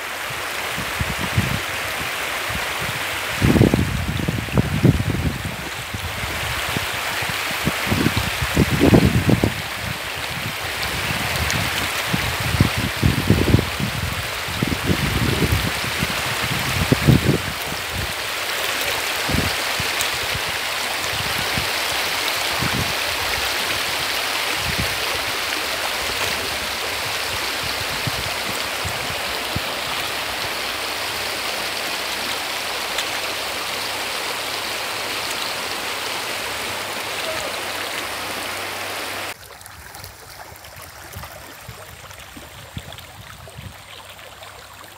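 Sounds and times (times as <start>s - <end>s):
shallow river running over stones: 0.0s - 44.9s.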